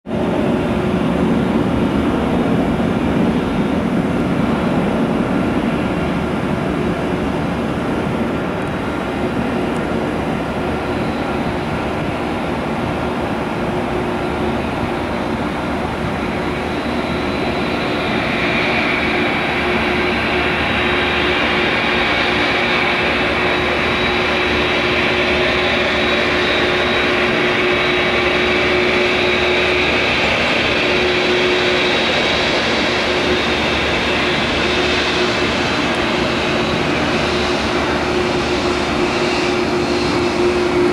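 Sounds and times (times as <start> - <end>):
jet engines hum and whine: 0.0 - 40.9.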